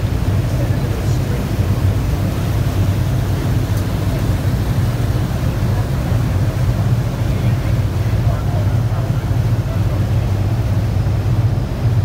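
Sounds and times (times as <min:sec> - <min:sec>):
boat engine droning: 0:00.0 - 0:12.0
water rushing along hull: 0:00.0 - 0:12.0
wind: 0:00.0 - 0:12.0.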